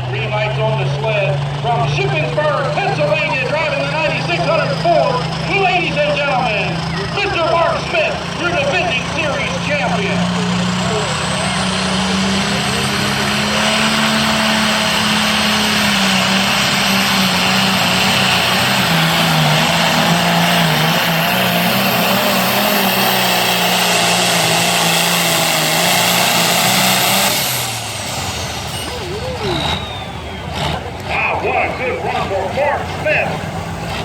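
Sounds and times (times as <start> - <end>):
tractor engine at full throttle: 0.0 - 34.0.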